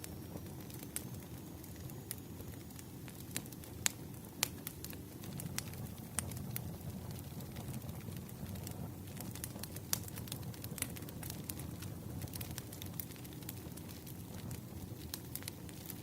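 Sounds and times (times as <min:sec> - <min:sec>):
fire crackles and pops: 0:00.0 - 0:16.0
wood fire burning: 0:00.0 - 0:16.0.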